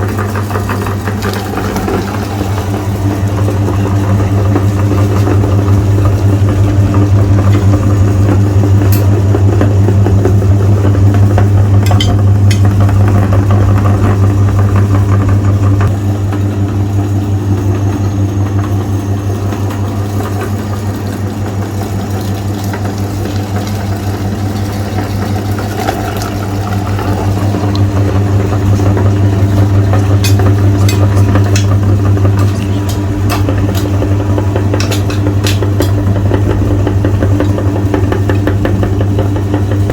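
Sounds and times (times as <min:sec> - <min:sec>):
electric meat grinder humming: 0:00.0 - 0:39.9.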